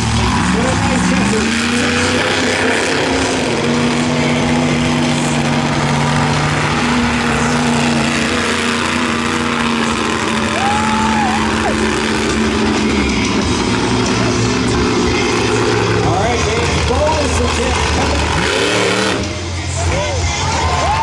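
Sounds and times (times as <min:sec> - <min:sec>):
noisy arena background: 0:00.0 - 0:21.0
truck engine at low revs: 0:00.0 - 0:21.0.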